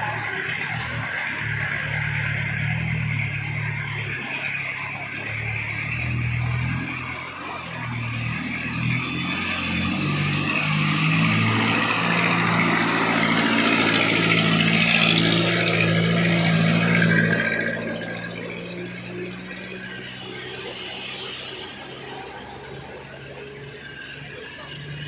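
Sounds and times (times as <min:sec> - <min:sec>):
truck engine passing by: 0:00.0 - 0:25.0.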